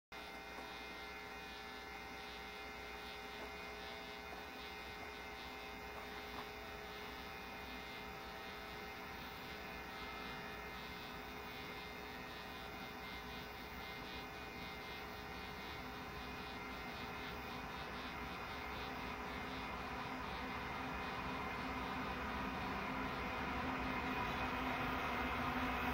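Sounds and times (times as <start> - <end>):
diesel locomotive engine drone: 0.2 - 25.9.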